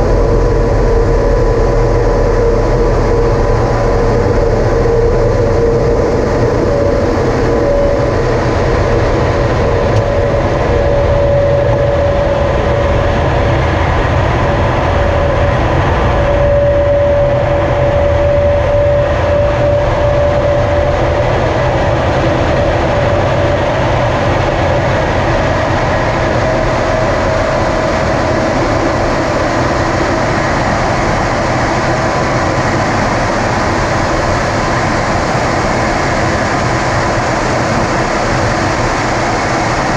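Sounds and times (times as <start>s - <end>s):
engine whine: 0.0s - 39.9s
jet engine and airflow noise: 0.0s - 39.9s.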